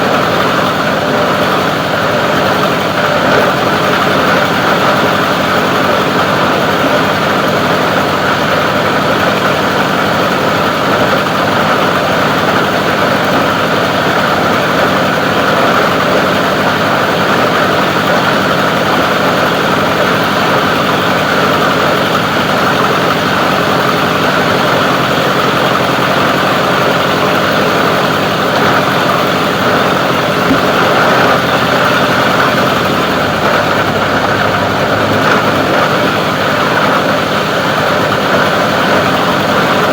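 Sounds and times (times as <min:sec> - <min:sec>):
plastic grinder running: 0:00.0 - 0:39.9.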